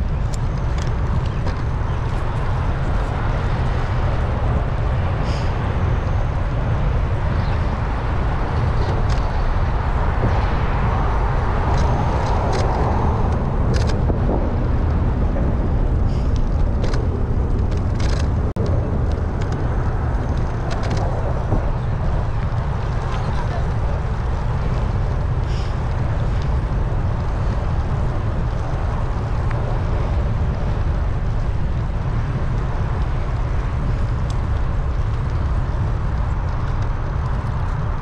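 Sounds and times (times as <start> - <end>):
bicycle rolling noise: 0.0 - 38.0
wind rumble: 0.0 - 38.0.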